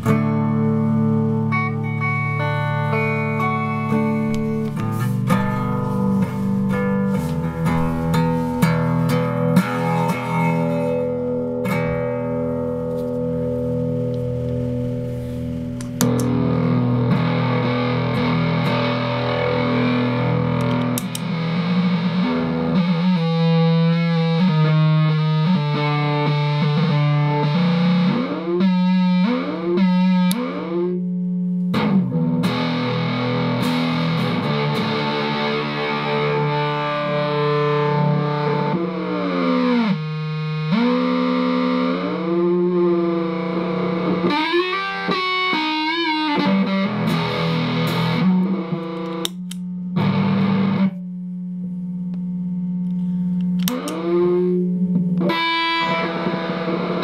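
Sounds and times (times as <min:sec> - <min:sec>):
distorted droning tone with echoes: 0:00.0 - 0:57.0.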